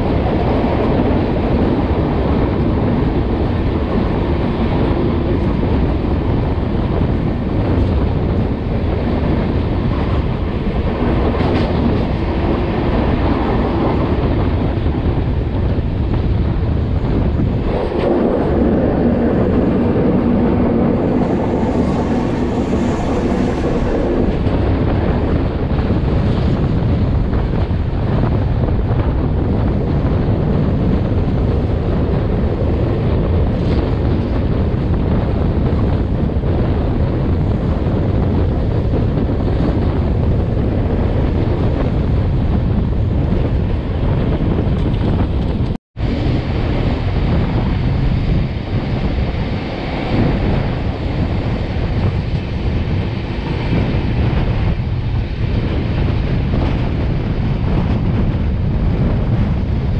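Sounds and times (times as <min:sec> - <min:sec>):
train wheels rumbling on rail: 0:00.0 - 0:59.9
wind buffeting microphone: 0:00.0 - 0:59.9.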